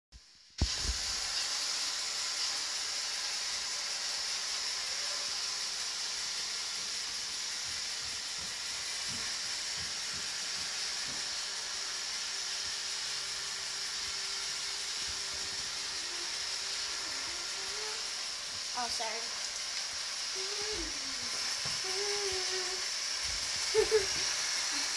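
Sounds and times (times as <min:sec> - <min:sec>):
robot vacuum whirring: 0:00.6 - 0:19.2, 0:19.9 - 0:24.9.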